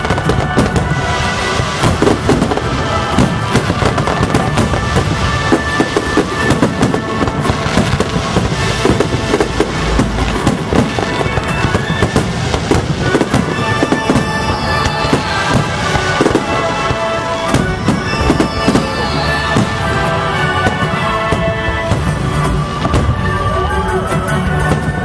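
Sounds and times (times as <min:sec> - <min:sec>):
music playing: 0:00.0 - 0:25.0.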